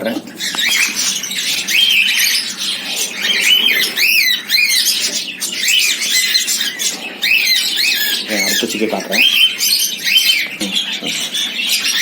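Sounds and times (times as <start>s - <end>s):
cockatiels calling shrilly: 0.1s - 12.0s.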